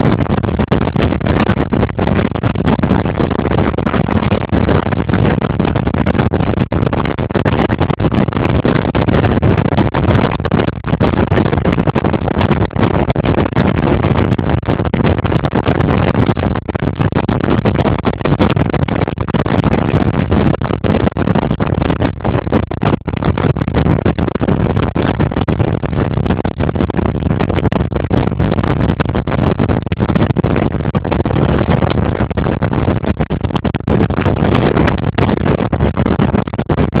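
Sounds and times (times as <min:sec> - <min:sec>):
motorboat engine and water rush: 0:00.0 - 0:36.9.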